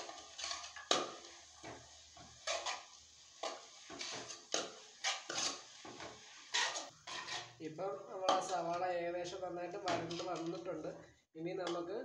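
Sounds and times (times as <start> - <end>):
metal spoon scraping a pan: 0.0 - 9.0, 9.7 - 10.8
onions frying: 0.0 - 10.7.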